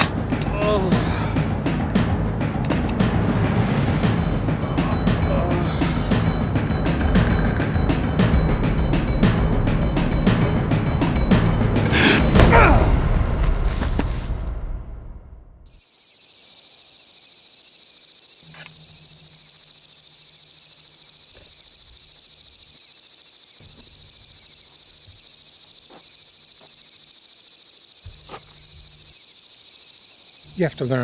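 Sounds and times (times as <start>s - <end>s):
high-pitched insect chorus: 0.0s - 14.6s, 15.7s - 31.0s.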